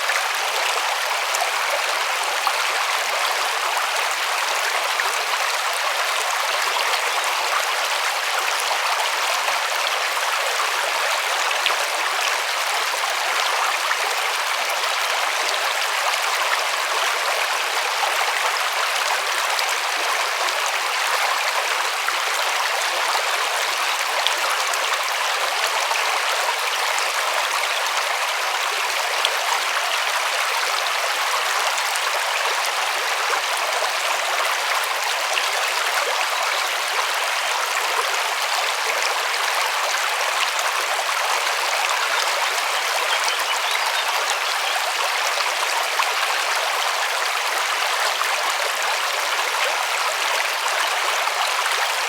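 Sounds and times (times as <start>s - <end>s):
river water flowing over stones: 0.0s - 52.0s.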